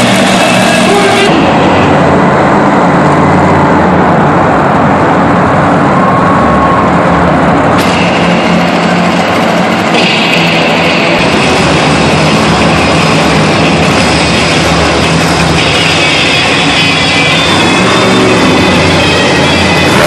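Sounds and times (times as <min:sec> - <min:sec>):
monster truck engines running: 0:00.0 - 0:20.0.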